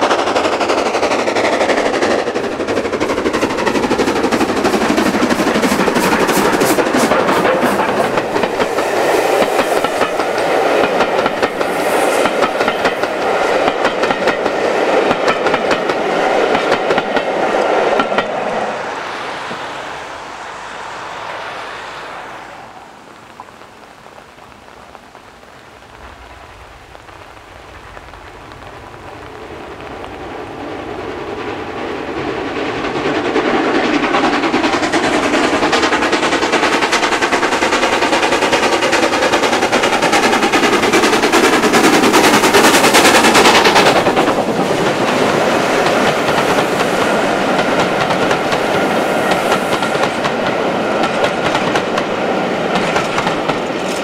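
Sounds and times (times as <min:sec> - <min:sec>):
train wheels clickety-clack: 0:00.0 - 0:18.7, 0:27.1 - 0:54.0
steam locomotive exhaust beats: 0:00.0 - 0:54.0.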